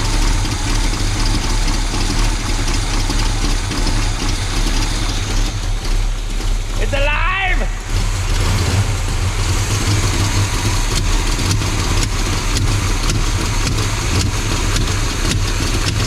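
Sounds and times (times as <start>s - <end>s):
truck engine idling with ticking: 0.0s - 16.0s.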